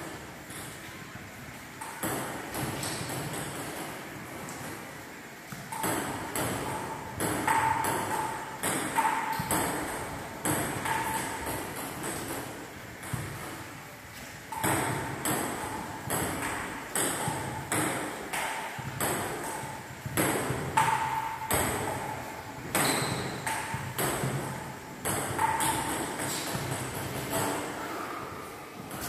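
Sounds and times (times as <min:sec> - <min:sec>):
ping-pong ball hitting paddles: 0:00.0 - 0:00.8, 0:01.7 - 0:04.8, 0:05.5 - 0:13.7, 0:14.5 - 0:29.0.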